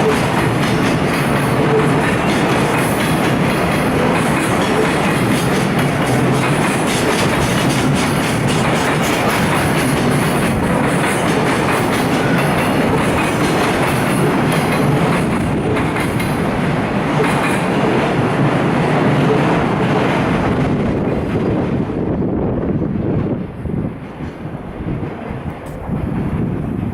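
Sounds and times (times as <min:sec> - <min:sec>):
train wheels clacking over rail joints: 0:00.0 - 0:21.6.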